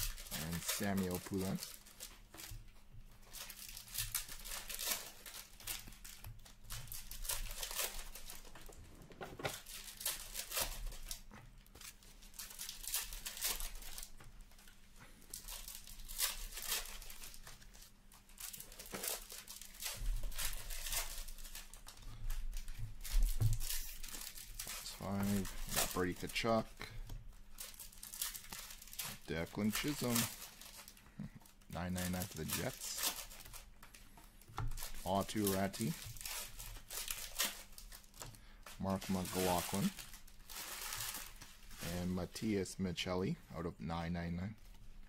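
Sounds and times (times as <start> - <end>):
card wrappers tearing and crinkling: 0.0 - 8.8, 9.4 - 42.7
cards being handled: 0.0 - 42.6.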